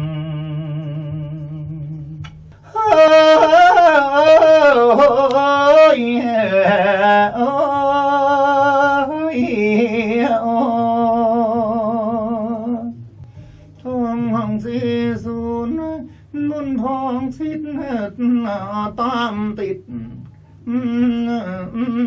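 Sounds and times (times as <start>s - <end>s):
man singing with vibrato: 0.0s - 22.0s.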